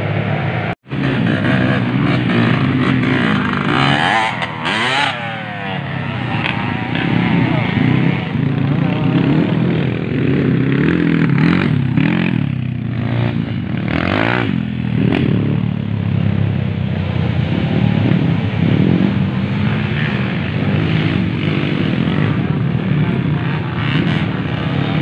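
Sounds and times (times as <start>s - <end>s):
distant motorcycle engines: 0.0s - 25.0s
motorcycles revving: 0.0s - 25.0s.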